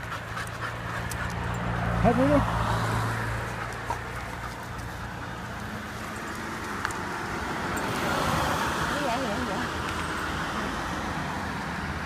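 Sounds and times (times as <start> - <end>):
car passing: 0.0 - 12.0.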